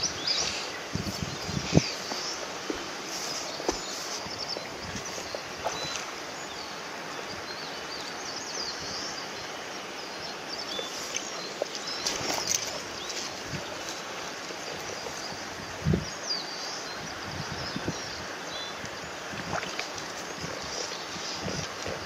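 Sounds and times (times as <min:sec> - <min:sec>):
birds chirping: 0:00.0 - 0:22.0
wind through grass and trees: 0:00.0 - 0:22.0.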